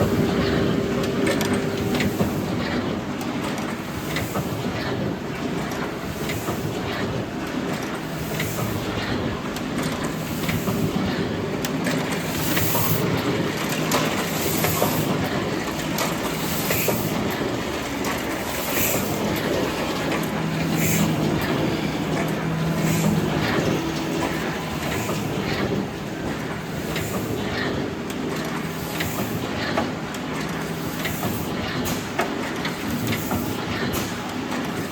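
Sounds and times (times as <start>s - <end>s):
die-cutting press clattering: 0.0s - 34.9s.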